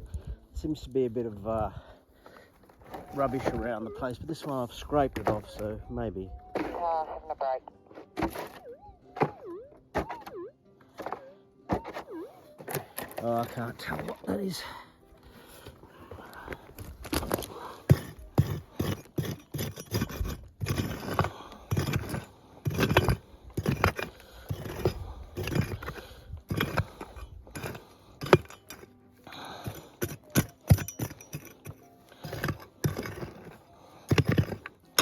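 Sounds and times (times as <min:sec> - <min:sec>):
digging tool scraping stony ground: 0:00.0 - 0:35.0.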